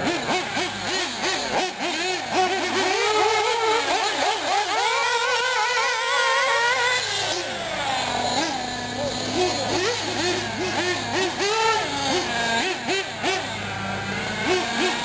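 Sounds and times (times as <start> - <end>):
small nitro engines revving: 0.0 - 15.0.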